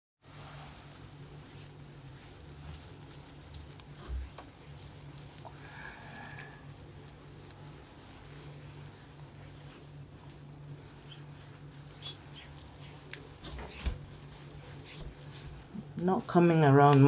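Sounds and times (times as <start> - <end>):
steady low hum: 0.3 - 17.0.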